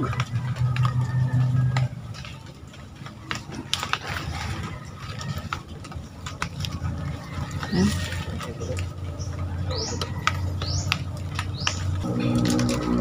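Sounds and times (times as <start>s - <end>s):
dry leaves rustling and crackling: 0.0s - 13.0s
low steady hum: 0.0s - 13.0s.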